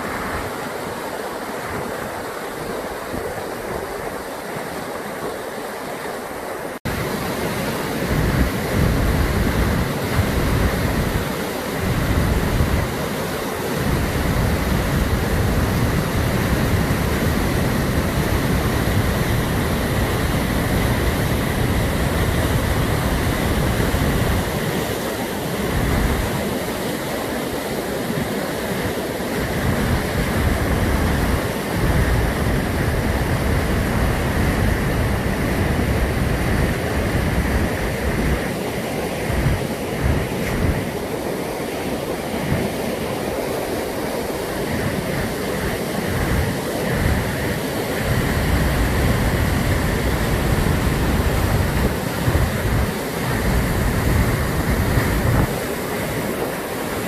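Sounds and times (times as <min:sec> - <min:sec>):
waterfall rushing: 0:00.0 - 0:57.0
wind buffeting microphone: 0:06.8 - 0:57.0.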